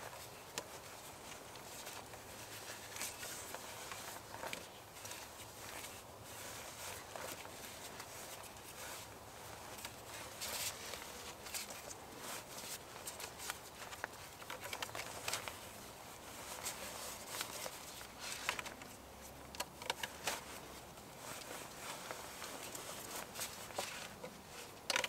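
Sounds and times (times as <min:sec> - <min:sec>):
cord rustling and scraping: 0:00.0 - 0:25.0
faint steady hiss: 0:00.0 - 0:25.0.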